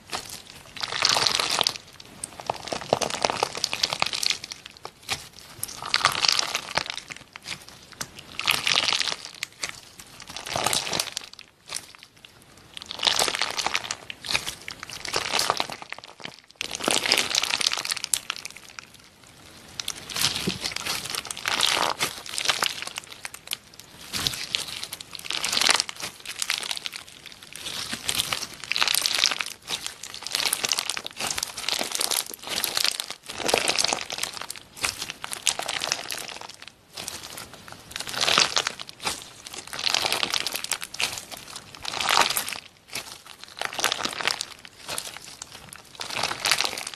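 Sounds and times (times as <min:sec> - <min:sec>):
crunchy slime crackling pops: 0:00.0 - 0:19.0, 0:19.7 - 0:46.9.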